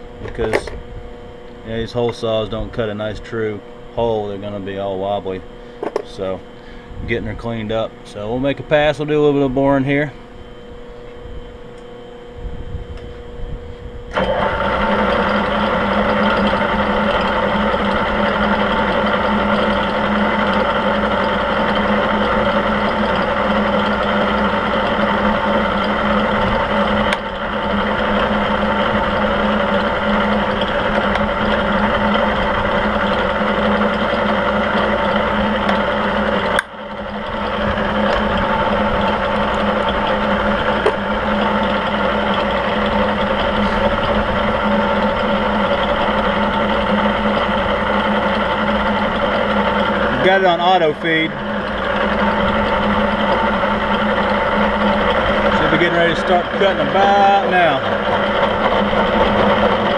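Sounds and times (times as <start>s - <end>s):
milling machine spindle humming: 0.0s - 59.9s.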